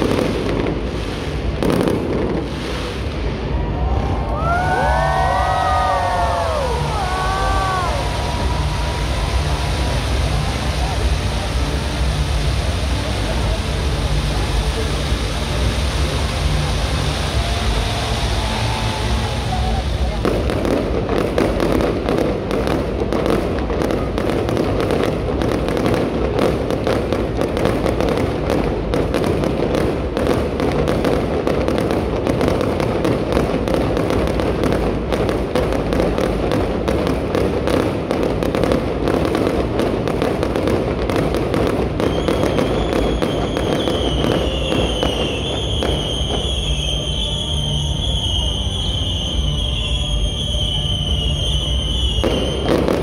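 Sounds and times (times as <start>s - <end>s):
fireworks crackling and popping: 0.0s - 53.0s.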